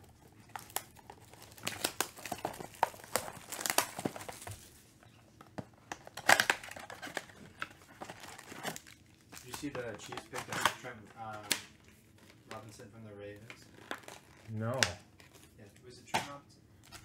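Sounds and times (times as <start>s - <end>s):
plastic shrink wrap crinkling and tearing: 0.0s - 5.1s, 5.9s - 16.0s.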